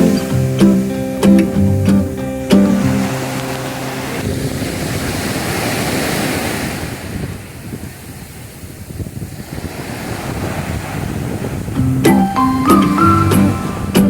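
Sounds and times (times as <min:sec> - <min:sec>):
surf breaking on a beach: 0:00.0 - 0:14.0
wind on microphone: 0:01.6 - 0:14.0.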